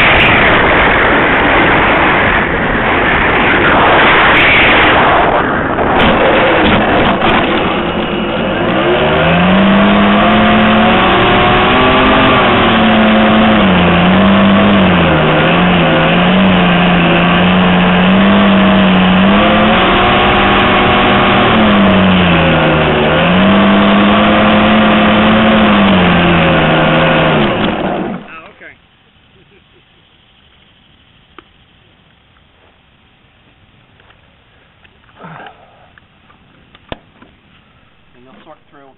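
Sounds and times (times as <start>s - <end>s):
electric motor and propeller humming: 0.0s - 38.9s.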